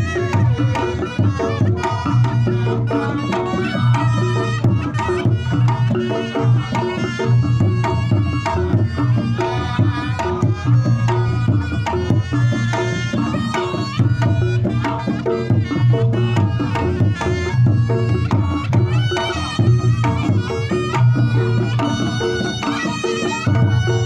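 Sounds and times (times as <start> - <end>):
rapid hand drumming: 0.0 - 24.0
wavering shawm melody: 0.0 - 24.0.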